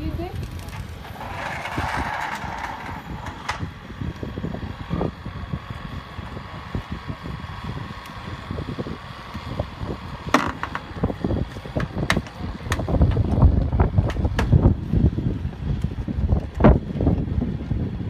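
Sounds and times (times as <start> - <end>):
mechanical hum: 0.0 - 18.0
wind buffeting microphone: 0.0 - 18.0.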